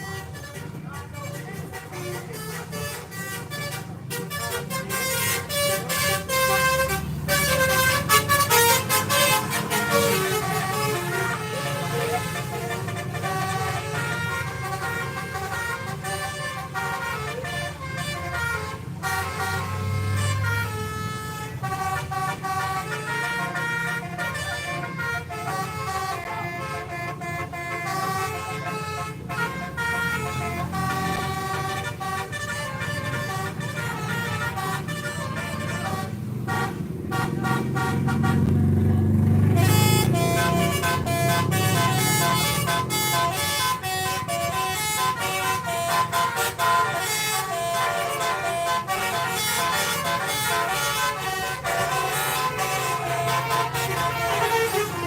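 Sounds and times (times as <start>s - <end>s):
heavy bus engine rumble: 0.0s - 55.0s
multi-tone bus air horns: 0.0s - 55.0s.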